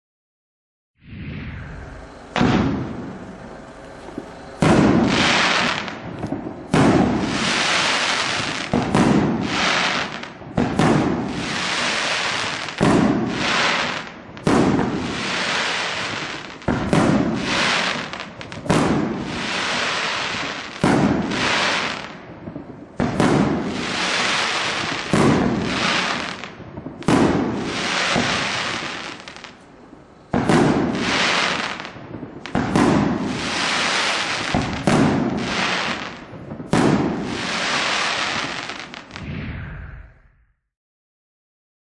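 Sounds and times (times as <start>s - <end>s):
firework shots thudding and hissing: 1.0s - 40.4s.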